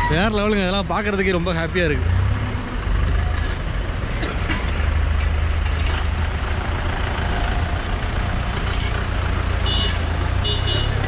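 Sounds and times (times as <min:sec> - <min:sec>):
surrounding traffic noise: 0:00.0 - 0:11.0.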